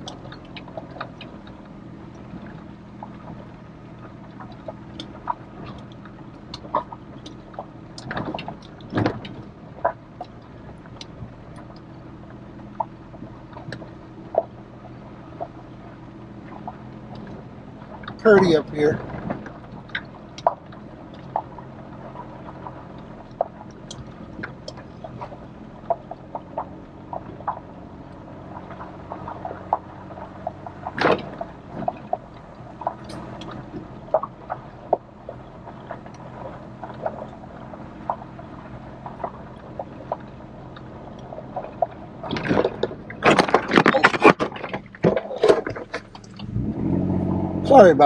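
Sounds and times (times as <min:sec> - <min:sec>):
vehicle engine running low: 0:00.0 - 0:48.0
vehicle knocks and rattles: 0:00.0 - 0:48.0.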